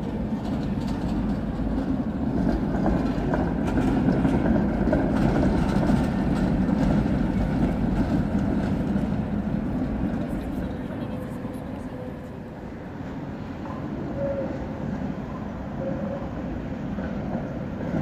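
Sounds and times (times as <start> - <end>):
tram wheels rumbling on rail: 0.0 - 18.0.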